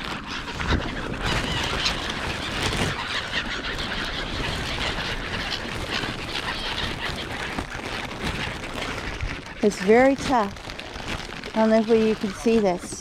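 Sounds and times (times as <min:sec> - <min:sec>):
gulls and crows calling: 0:00.0 - 0:13.0.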